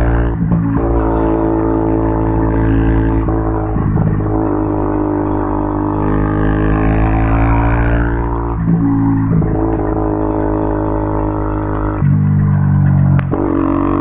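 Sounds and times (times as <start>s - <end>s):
motorcycle engine droning: 0.0s - 14.0s.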